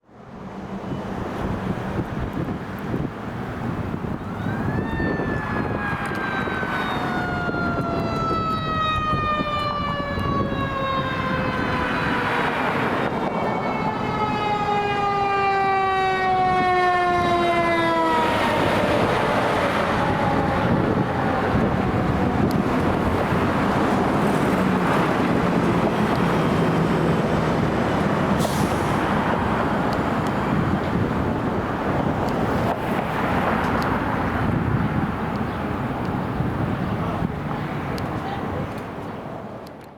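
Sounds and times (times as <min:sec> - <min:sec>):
truck engine and road noise: 0:00.0 - 0:39.9
fire engine siren: 0:00.6 - 0:37.4.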